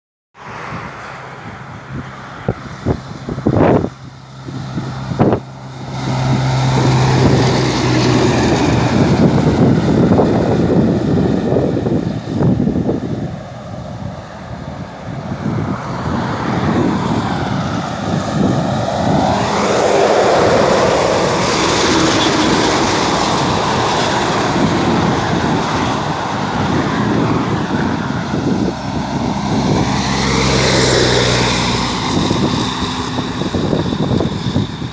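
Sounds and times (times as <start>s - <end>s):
heavy trucks passing at speed: 0.4s - 34.9s.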